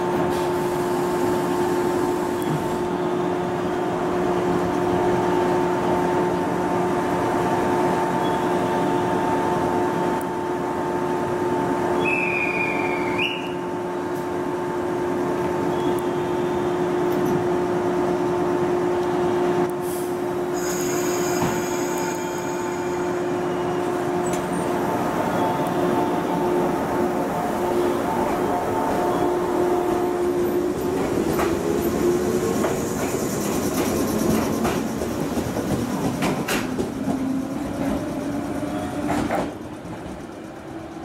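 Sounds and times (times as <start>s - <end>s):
train equipment humming: 0.0s - 41.0s.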